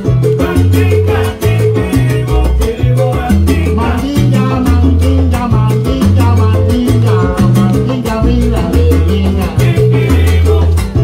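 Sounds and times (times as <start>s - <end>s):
loud steady bass line: 0.0s - 11.0s
salsa band playing: 0.0s - 11.0s
timbales and conga strokes: 0.0s - 11.0s.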